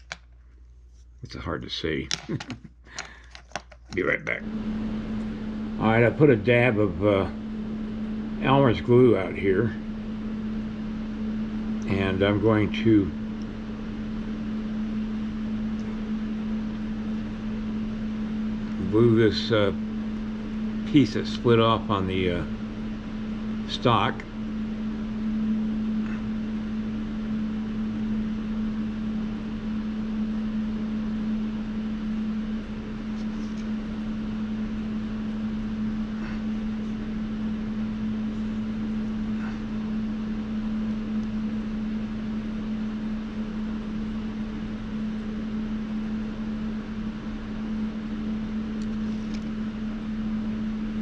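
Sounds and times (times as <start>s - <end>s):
space heater fan humming: 0.0s - 51.0s.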